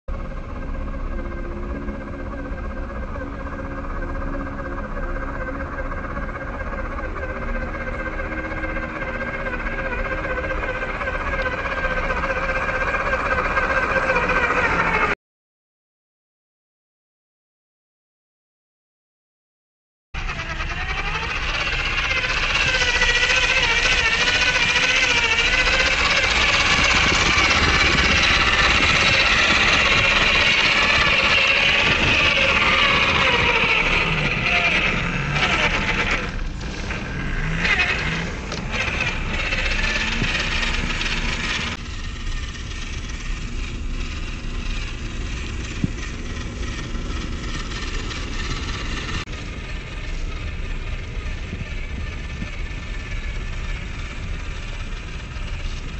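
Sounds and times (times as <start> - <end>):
small electric motor whining: 0.2 - 15.2, 20.2 - 55.9.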